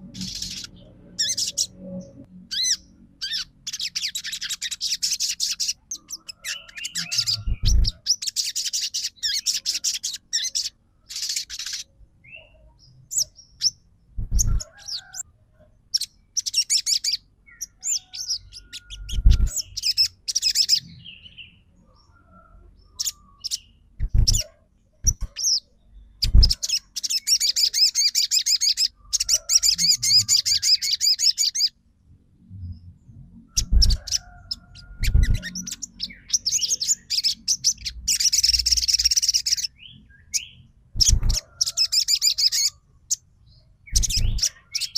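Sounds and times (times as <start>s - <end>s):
songbird trilling: 0.0s - 15.2s, 15.9s - 21.5s, 22.9s - 31.7s, 33.5s - 43.2s, 43.8s - 44.9s.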